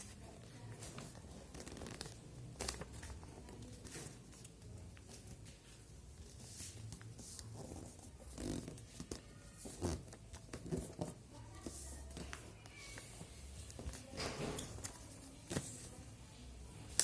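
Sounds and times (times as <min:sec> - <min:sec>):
paper rustling and creasing: 0:00.0 - 0:16.0.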